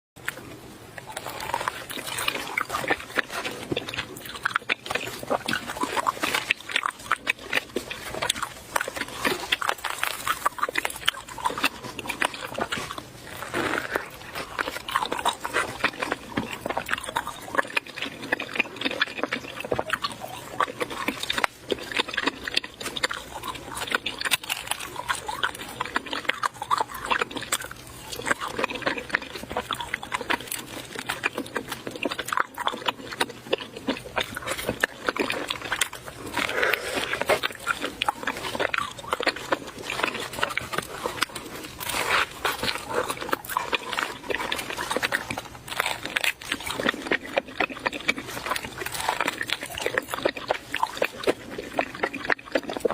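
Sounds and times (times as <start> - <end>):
wet chewing and slurping: 0.2 - 52.9.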